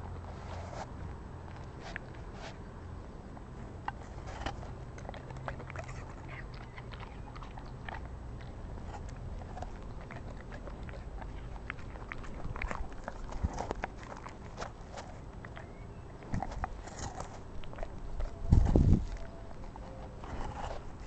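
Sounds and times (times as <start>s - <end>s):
dog crunching apple: 0.0s - 21.0s
wet chewing clicks: 0.0s - 21.0s.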